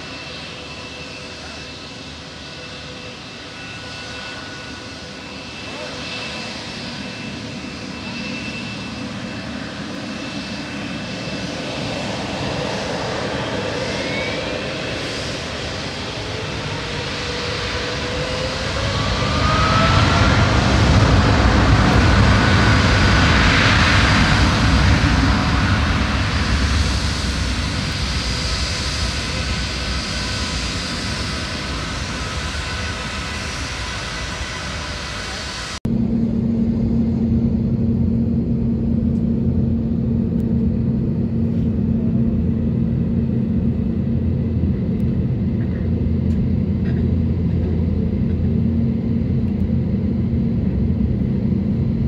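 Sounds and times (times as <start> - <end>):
jet engines whining and roaring: 0.0 - 52.0.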